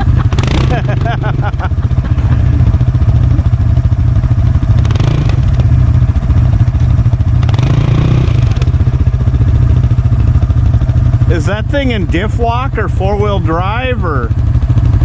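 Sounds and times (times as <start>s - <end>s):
atv engine running hard: 0.0s - 15.0s.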